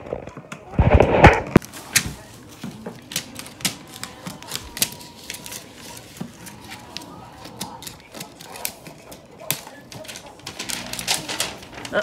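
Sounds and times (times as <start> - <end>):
gift wrap tearing: 0.8 - 12.0.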